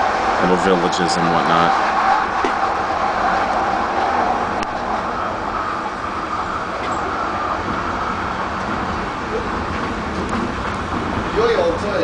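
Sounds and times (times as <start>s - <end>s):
train running noise inside carriage: 0.0s - 12.0s.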